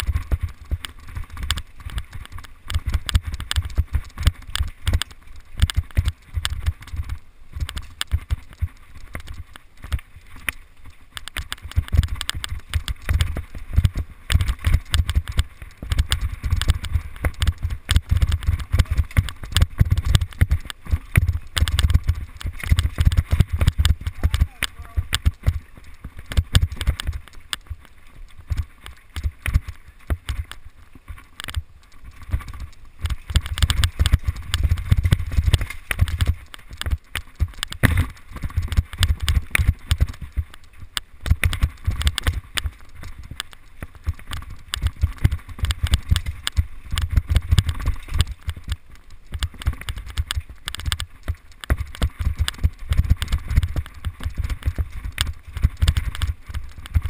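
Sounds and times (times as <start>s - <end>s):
bike rattling over rough ground: 0.0s - 57.0s.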